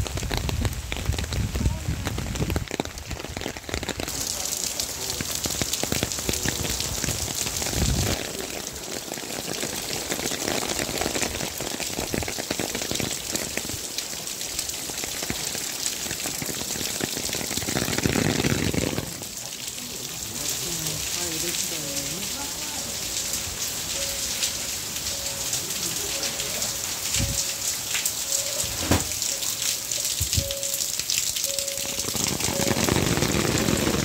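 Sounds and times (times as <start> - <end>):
rain pattering on plastic umbrella: 0.0 - 34.0.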